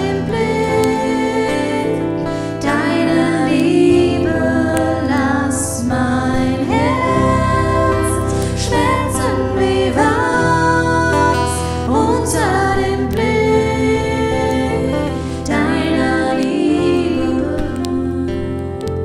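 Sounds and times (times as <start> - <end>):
sustained chords: 0.0 - 19.0
woman singing: 0.0 - 19.0.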